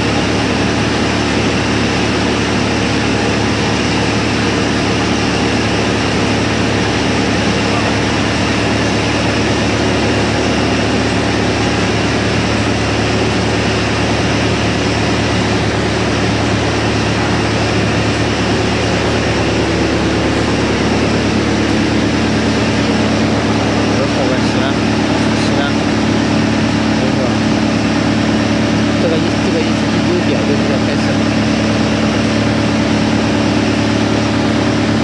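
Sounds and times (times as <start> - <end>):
wood chipper running empty: 0.0 - 35.0.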